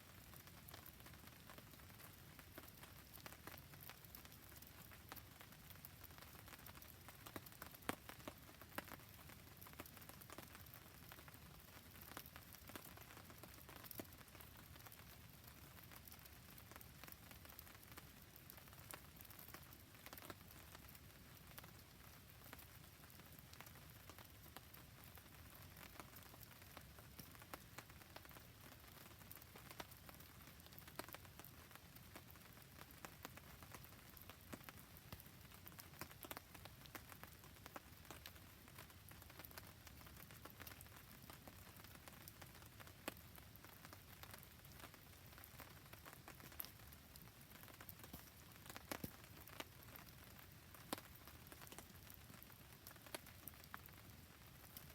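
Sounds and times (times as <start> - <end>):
rain falling: 0.0 - 54.9
small drips and ticks: 0.0 - 54.9.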